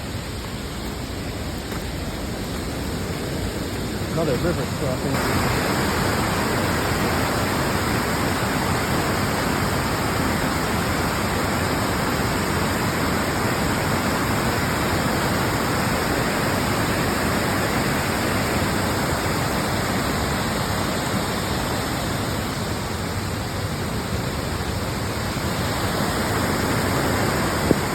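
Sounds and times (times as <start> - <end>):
stream rushing: 0.0 - 27.9.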